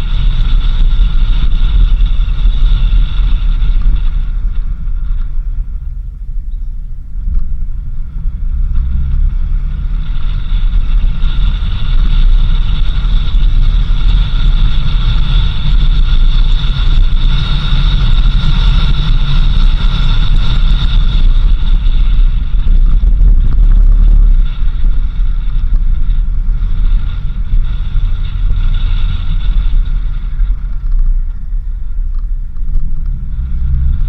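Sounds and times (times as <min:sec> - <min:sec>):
vehicle engine and tyres rumbling: 0:00.0 - 0:34.0
wind buffeting microphone: 0:00.0 - 0:34.0.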